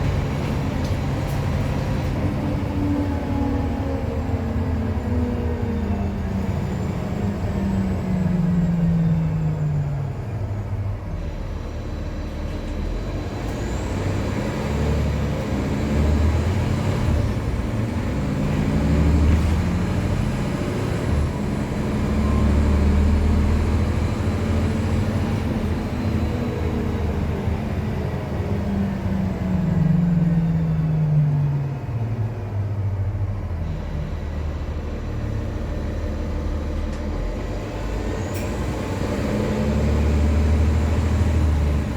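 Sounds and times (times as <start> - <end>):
bus diesel engine accelerating: 0.0 - 41.9.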